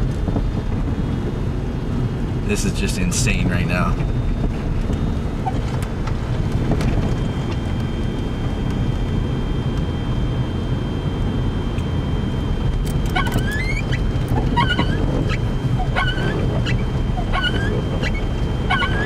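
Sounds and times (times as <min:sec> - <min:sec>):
car engine rumble: 0:00.0 - 0:19.0
wind against car: 0:00.0 - 0:19.0
thin high whine: 0:02.4 - 0:19.0.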